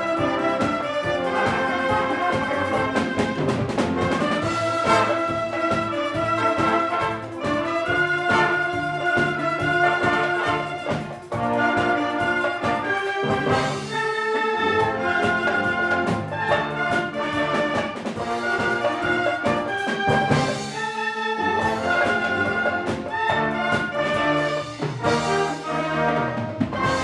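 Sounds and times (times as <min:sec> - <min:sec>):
percussion hits: 0:00.0 - 0:14.2, 0:14.8 - 0:27.0
wind orchestra with brass: 0:00.0 - 0:27.0.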